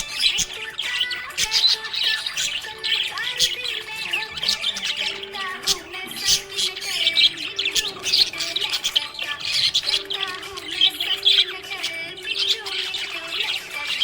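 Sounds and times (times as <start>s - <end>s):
budgerigars chirping and chattering: 0.0s - 14.0s.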